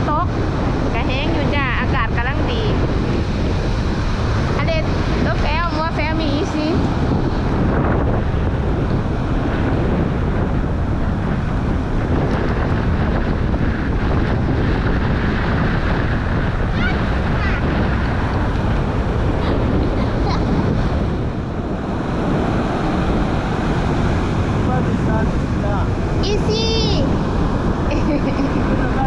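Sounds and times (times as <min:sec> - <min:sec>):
storm surf breaking waves: 0:00.0 - 0:29.0
wind buffeting microphone: 0:00.0 - 0:29.0.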